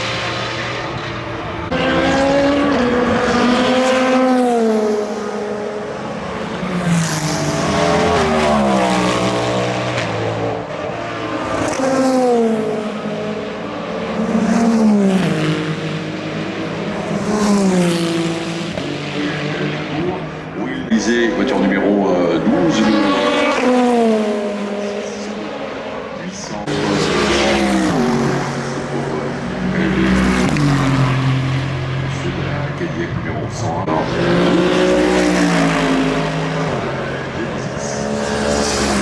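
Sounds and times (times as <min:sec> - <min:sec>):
race cars passing at speed: 0:00.0 - 0:39.0.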